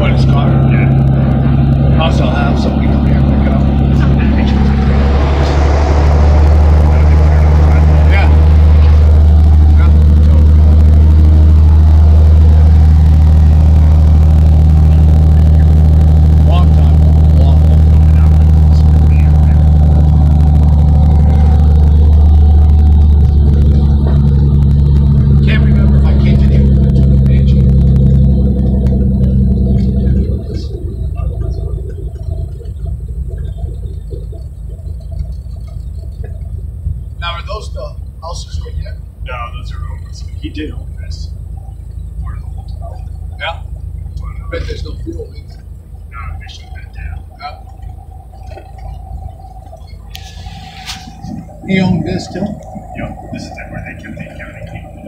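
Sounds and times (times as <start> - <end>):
plane engine and propeller drone: 0.0 - 55.0.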